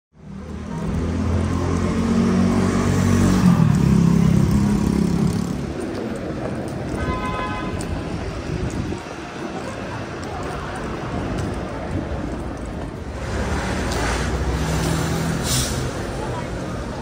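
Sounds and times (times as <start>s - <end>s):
street traffic: 0.1s - 17.0s.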